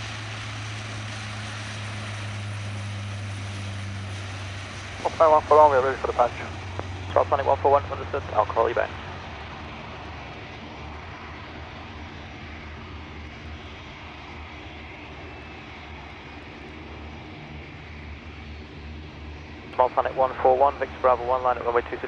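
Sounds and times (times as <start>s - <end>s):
airliner engines humming: 0.0s - 22.0s.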